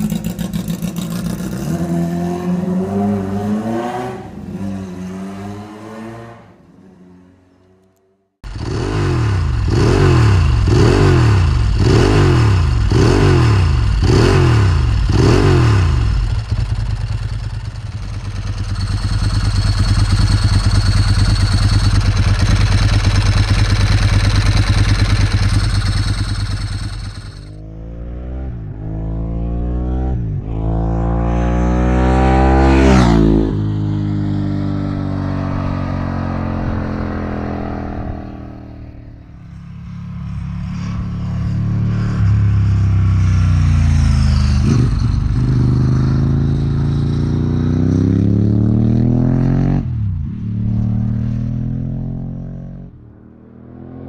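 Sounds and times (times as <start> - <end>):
engine running and revving: 0.0 - 6.6, 7.7 - 54.0
motorcycle engine revving: 0.0 - 54.0.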